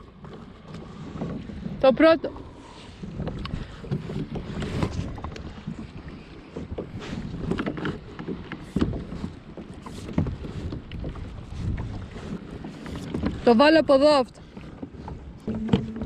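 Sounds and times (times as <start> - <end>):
water lapping against kayak hull: 0.0 - 16.0
wind buffeting microphone: 0.0 - 16.0.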